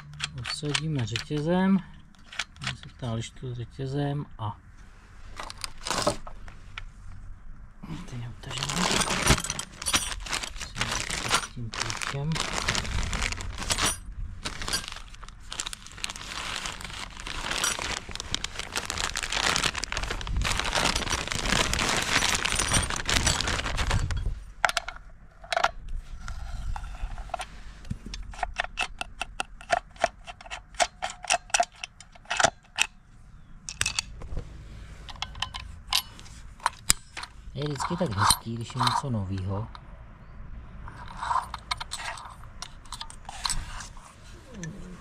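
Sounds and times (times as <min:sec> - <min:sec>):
rustling and handling noise: 0:00.0 - 0:03.4, 0:04.6 - 0:39.9, 0:40.8 - 0:45.0.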